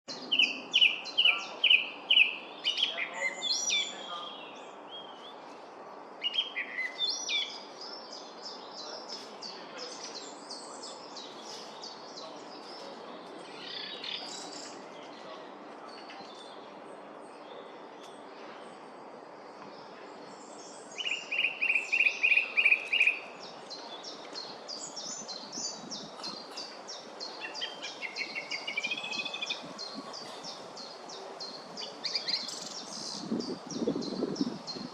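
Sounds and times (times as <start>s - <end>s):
song thrush singing: 0.1s - 34.9s.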